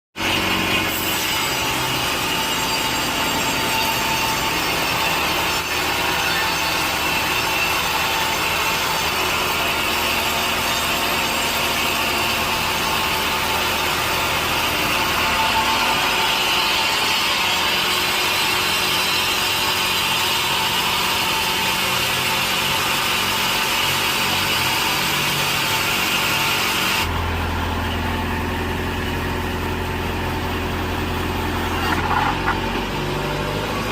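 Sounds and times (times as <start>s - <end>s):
saw cutting through log: 0.2s - 33.9s.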